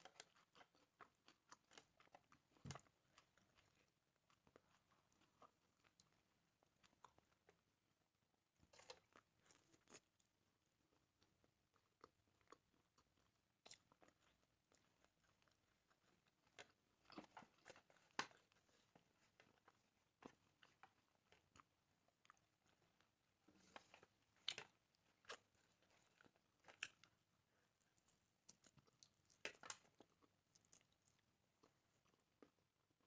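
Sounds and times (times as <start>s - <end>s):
person chewing crunchy food: 0.0s - 7.6s, 8.7s - 10.3s, 11.0s - 32.8s.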